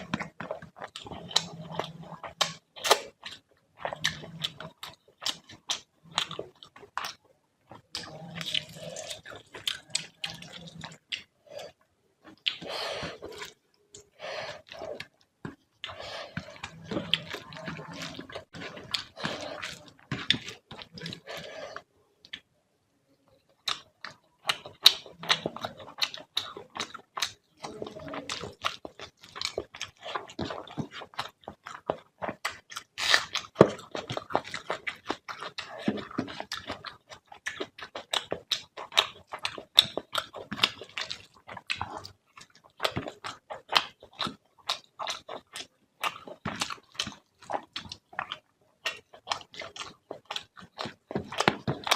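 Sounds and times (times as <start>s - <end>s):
wet chewing and lip smacks: 0.0s - 21.4s, 23.6s - 51.9s.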